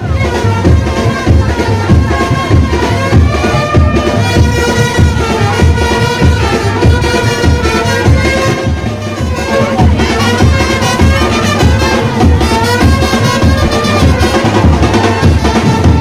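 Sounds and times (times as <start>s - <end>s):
heavy steady drum beat: 0.0s - 16.0s
sustained melody: 0.0s - 16.0s.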